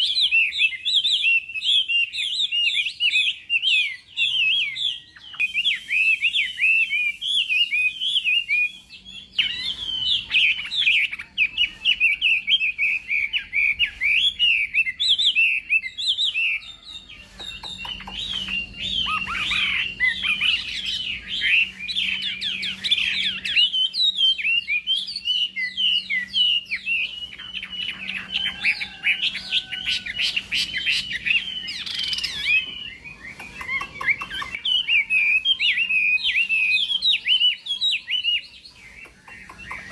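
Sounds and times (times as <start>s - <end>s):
bird singing whistled notes and trills: 0.0s - 39.9s.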